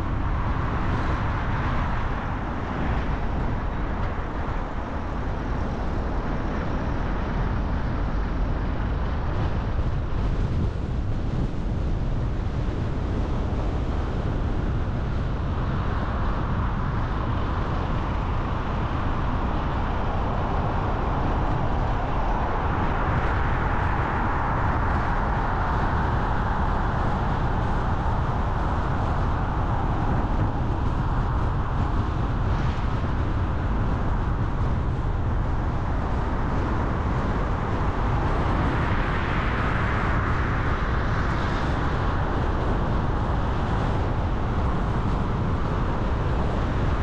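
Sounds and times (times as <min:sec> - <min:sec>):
car road noise and rumble: 0:00.0 - 0:47.0.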